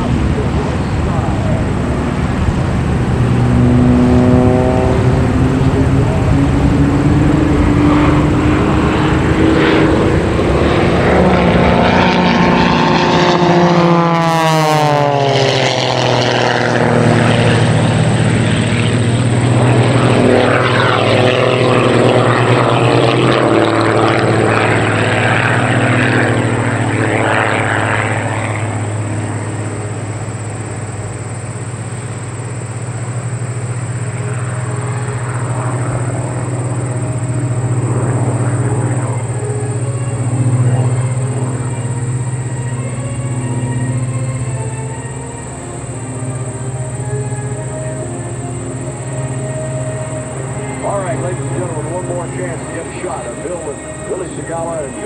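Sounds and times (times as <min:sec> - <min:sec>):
propeller plane engine passing by: 0:00.0 - 0:55.0
steady engine drone: 0:00.0 - 0:55.0.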